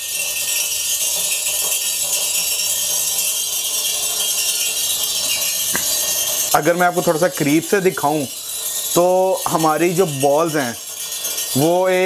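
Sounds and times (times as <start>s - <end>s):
beads rattling on hot plate: 0.0s - 12.0s.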